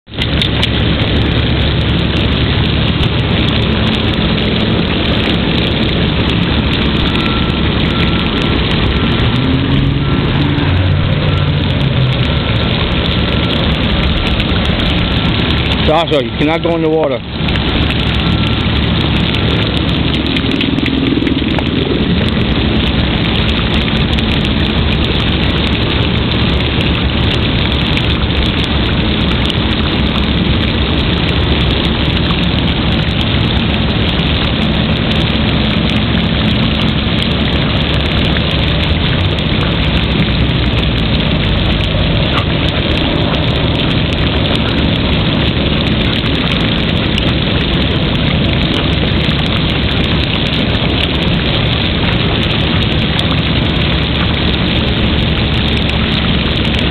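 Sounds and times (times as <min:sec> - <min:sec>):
water sprinkler spraying on pavement: 0:00.0 - 0:56.9.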